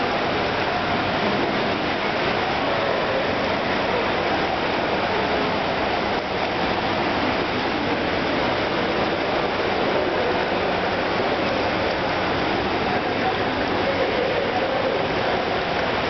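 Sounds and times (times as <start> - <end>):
indoor swimming pool ambience: 0.0 - 16.0.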